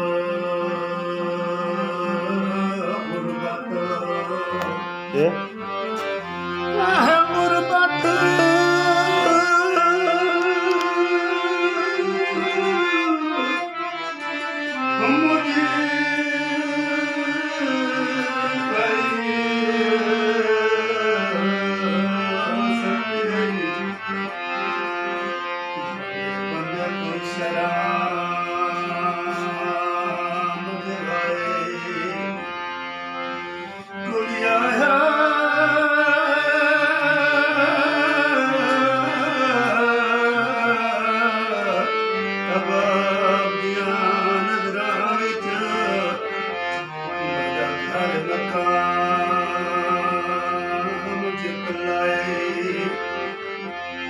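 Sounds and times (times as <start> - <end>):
harmonium folk melody: 0.0 - 54.0.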